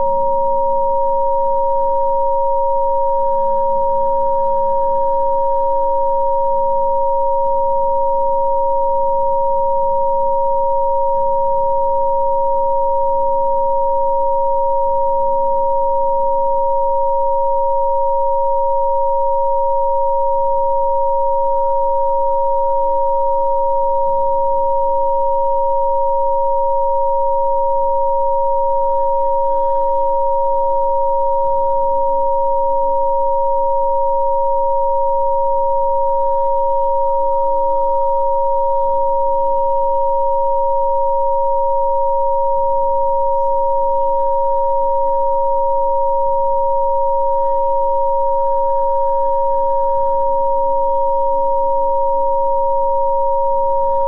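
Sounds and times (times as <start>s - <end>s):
steady electronic sine tones: 0.0s - 54.0s.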